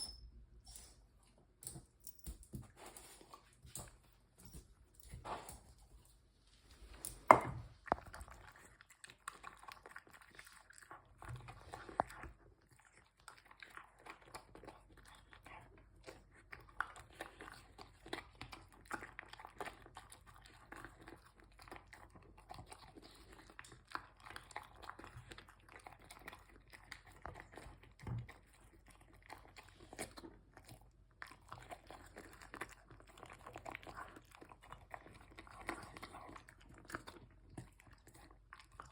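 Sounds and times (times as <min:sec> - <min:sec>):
dog chewing and crunching: 0:01.8 - 0:38.9.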